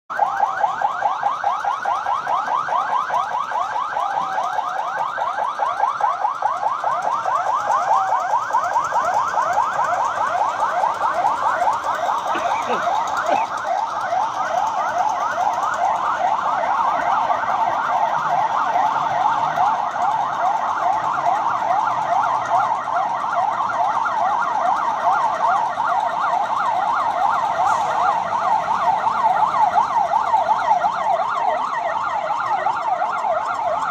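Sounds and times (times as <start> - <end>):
electronic alarm siren sweeping: 0.1 - 33.9.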